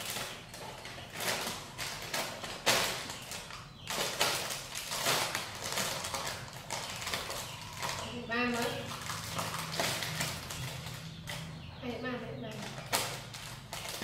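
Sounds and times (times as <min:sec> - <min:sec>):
plastic packet crinkling: 0:00.0 - 0:11.5, 0:12.5 - 0:14.0.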